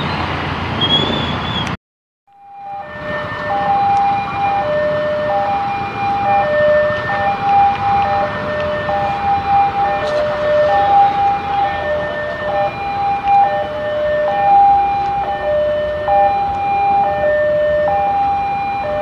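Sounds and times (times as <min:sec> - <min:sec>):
two-tone level crossing alarm: 0:02.3 - 0:19.0.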